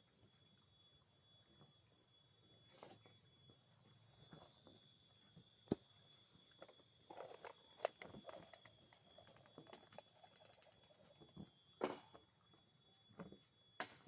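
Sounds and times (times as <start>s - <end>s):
faint steady high tone: 0.0s - 14.0s.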